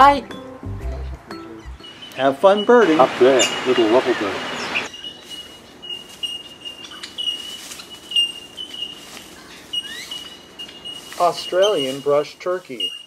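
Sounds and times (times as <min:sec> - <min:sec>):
short rising bird chirps: 0:01.5 - 0:12.2
bird calling thin high note: 0:01.9 - 0:13.0.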